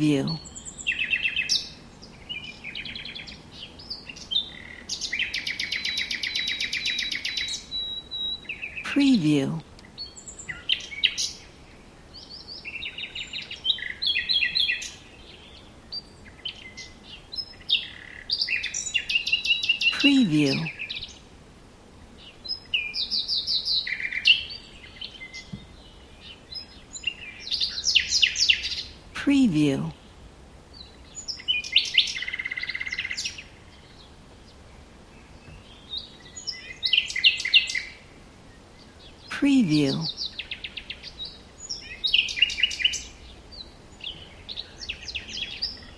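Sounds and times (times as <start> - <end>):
songbirds chirping: 0.0 - 45.9.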